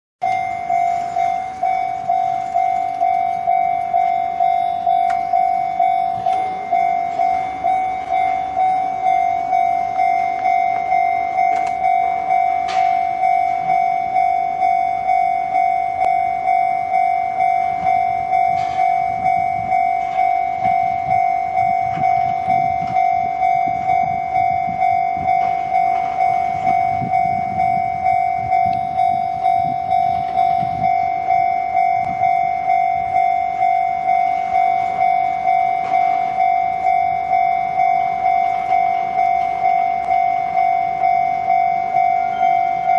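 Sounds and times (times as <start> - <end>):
level-crossing bell two-tone ding: 0.2 - 42.9.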